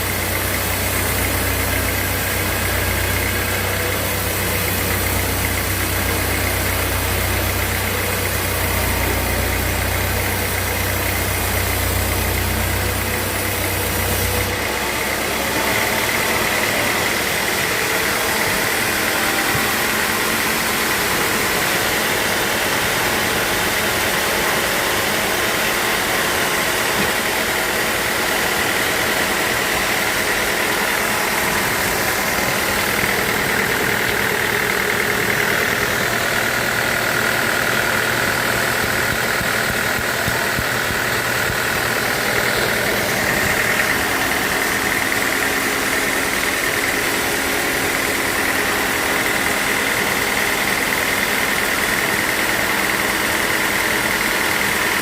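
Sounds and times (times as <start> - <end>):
high steady whine: 0.0 - 55.0
sawmill machinery hum: 0.0 - 55.0.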